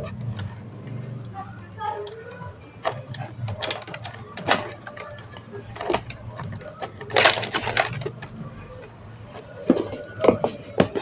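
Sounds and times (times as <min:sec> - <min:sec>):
tools and parts clicking: 0:02.0 - 0:11.0.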